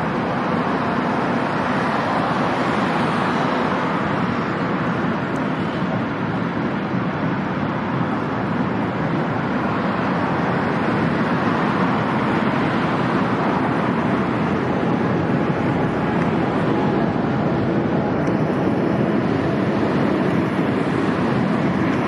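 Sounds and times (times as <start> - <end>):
steady outdoor background rush: 0.0 - 22.0.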